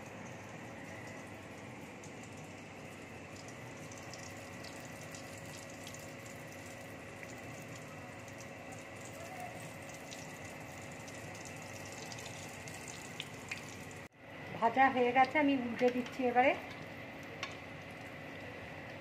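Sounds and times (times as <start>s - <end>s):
deep-frying sizzle with crackles: 0.0s - 19.0s.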